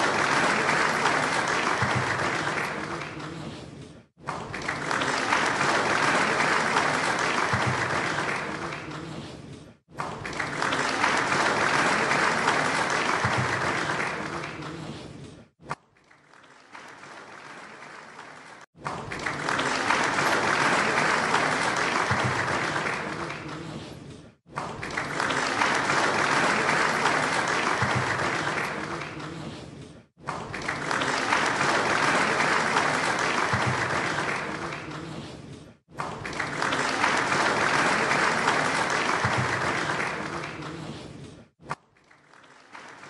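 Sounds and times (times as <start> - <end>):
audience clapping: 0.0 - 43.0.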